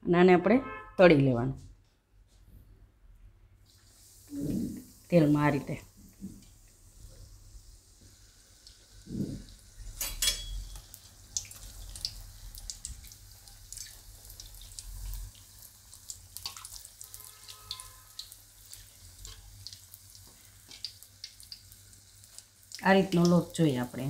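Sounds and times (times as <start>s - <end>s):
food frying in hot oil: 3.7s - 24.0s.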